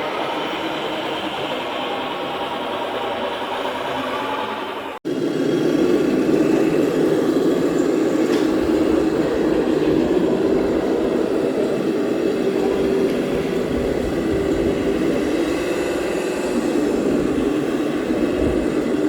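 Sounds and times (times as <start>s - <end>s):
model truck motors humming: 0.0s - 19.0s.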